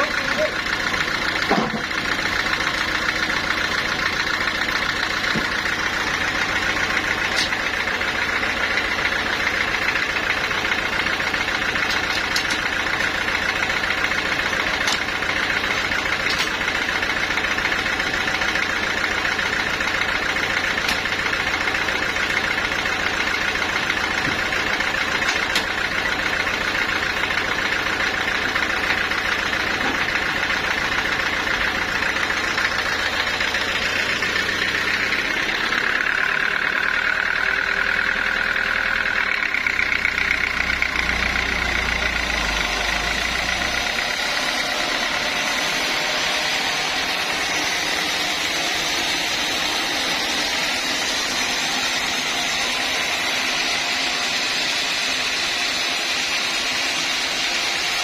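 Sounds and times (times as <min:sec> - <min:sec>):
sawmill saw and engine running: 0:00.0 - 0:58.0.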